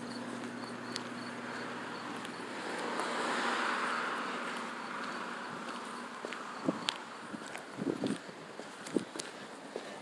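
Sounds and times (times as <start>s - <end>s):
car passing on road: 0.0s - 8.7s.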